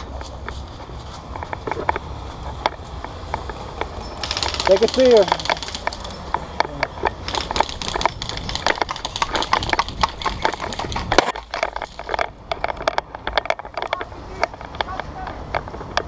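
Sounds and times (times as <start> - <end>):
airsoft gunfire clicks and cracks: 2.7 - 16.0.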